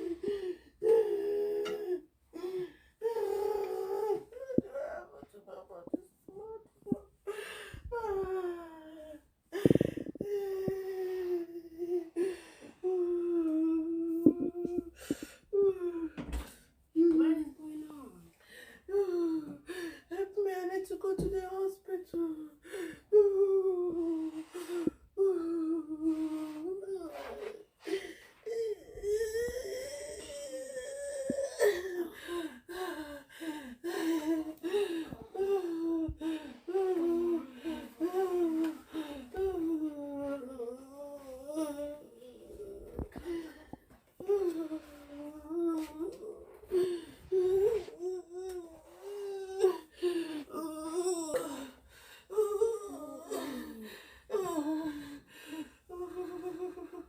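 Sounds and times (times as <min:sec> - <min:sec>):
woman whimpering and moaning: 0:00.0 - 0:16.2, 0:18.9 - 0:20.4, 0:21.9 - 0:57.0.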